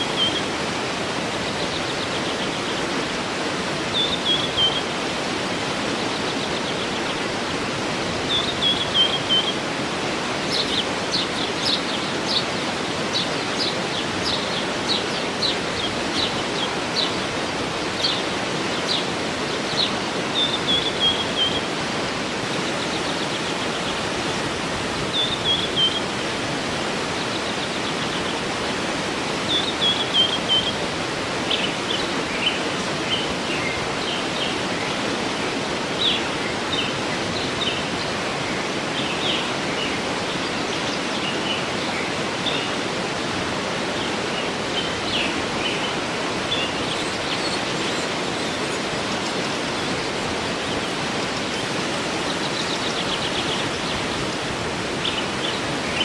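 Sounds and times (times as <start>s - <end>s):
birds singing: 0.0s - 56.0s
waterfall rushing: 0.0s - 56.0s.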